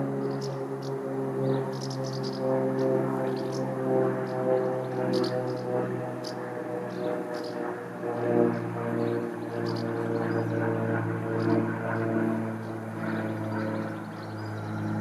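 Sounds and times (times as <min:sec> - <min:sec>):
low steady engine drone: 0:00.0 - 0:15.0.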